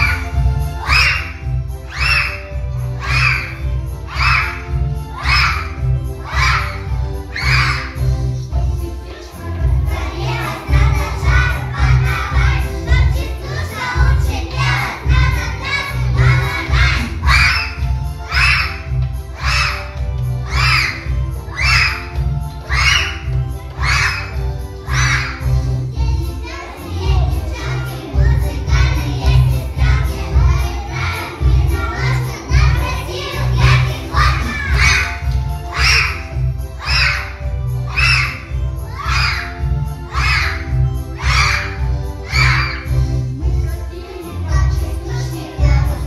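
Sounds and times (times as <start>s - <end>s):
children singing in unison: 0.0s - 8.2s, 8.8s - 46.0s.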